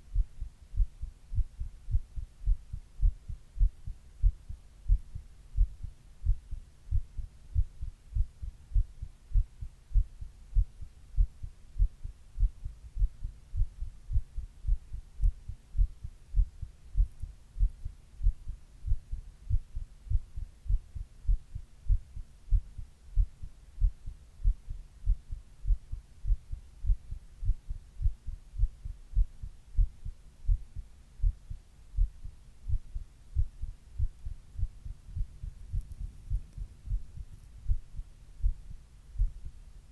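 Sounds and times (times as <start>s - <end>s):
heartbeat thuds: 0.0s - 39.6s.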